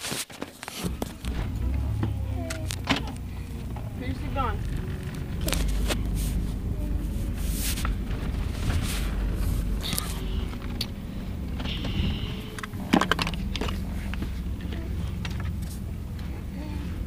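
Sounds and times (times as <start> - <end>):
rustling: 0.0 - 17.0
car cabin low rumble: 0.8 - 17.0.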